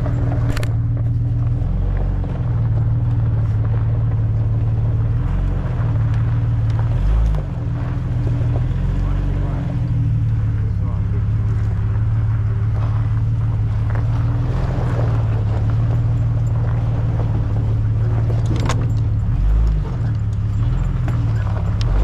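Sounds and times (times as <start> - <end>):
car engine droning: 0.0 - 22.0.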